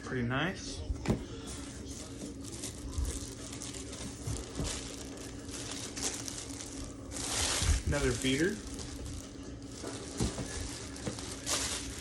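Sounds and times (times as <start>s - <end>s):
packaging rustling and crinkling: 1.1s - 12.0s.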